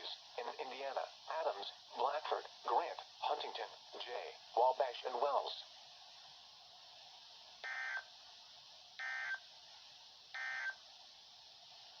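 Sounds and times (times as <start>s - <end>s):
faint radio hiss: 0.0s - 12.0s.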